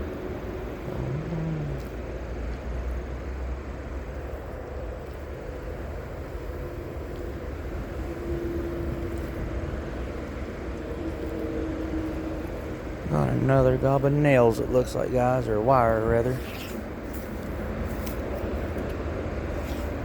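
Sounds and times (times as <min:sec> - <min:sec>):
distant engine rumble: 0:00.0 - 0:20.0
faint droning hum: 0:00.0 - 0:20.0.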